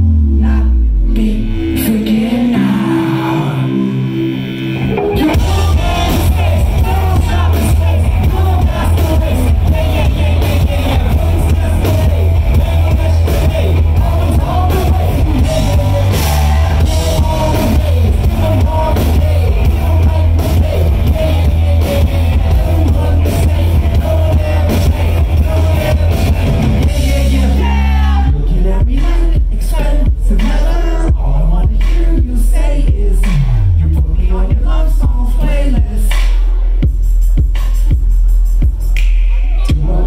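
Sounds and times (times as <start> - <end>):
heavy steady bass: 0.0 - 40.0
live rock band playing: 0.0 - 40.0
man singing: 0.3 - 4.2, 4.9 - 36.7, 39.5 - 40.0.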